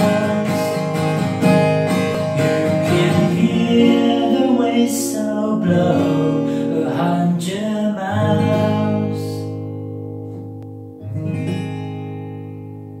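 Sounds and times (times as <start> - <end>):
acoustic guitar chords ringing: 0.0 - 13.0.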